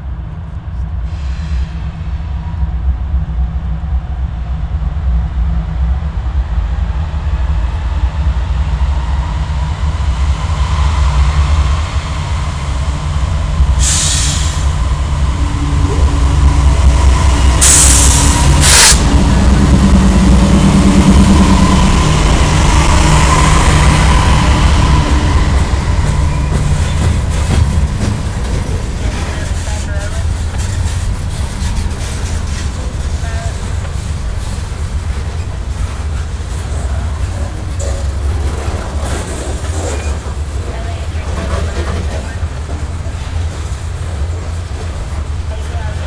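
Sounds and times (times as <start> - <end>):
diesel locomotive rumble: 0.0 - 46.0
freight cars rolling on rails: 8.7 - 46.0.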